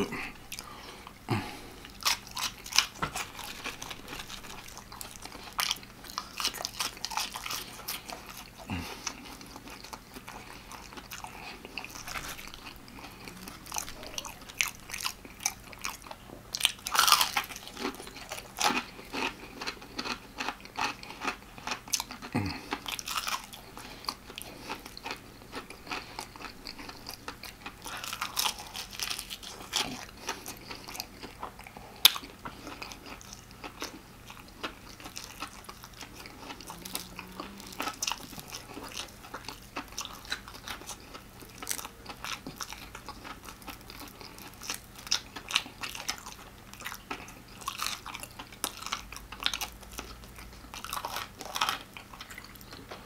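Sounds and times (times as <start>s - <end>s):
crunching fried chicken: 0.0s - 53.0s.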